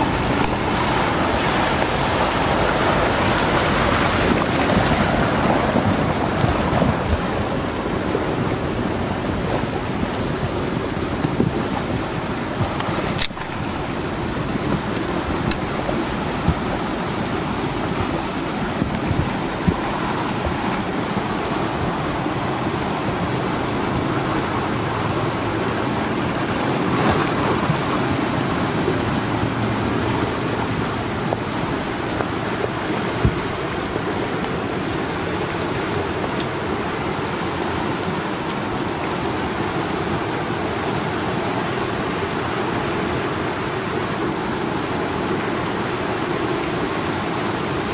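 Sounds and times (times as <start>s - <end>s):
rushing churning floodwater: 0.0s - 47.9s.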